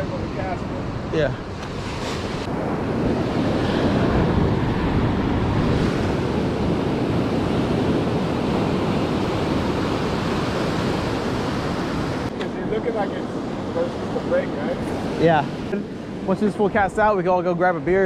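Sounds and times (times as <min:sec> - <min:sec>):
surf washing against rocks: 0:00.0 - 0:16.9
wind rumbling on microphone: 0:00.0 - 0:18.0.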